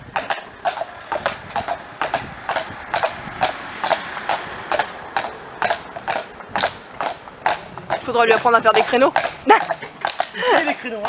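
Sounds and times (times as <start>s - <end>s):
horse hooves clip-clopping on asphalt: 0.0s - 11.0s.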